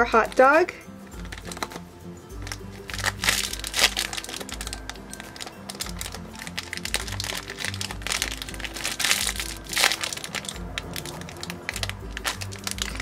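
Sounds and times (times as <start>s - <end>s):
crinkling and clicking handling noises: 0.0s - 13.0s
music with repeating bass beat: 0.9s - 13.0s.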